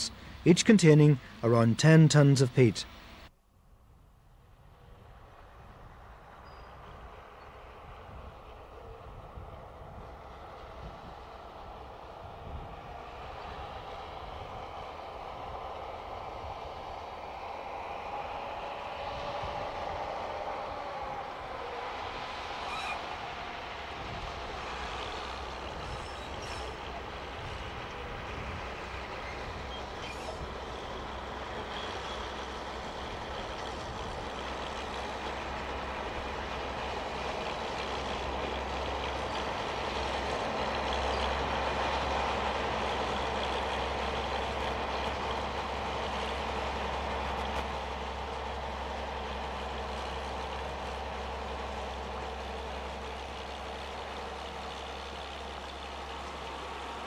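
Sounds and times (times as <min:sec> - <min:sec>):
train locomotive hauling wagons: 0:00.0 - 0:03.3, 0:04.2 - 0:57.0.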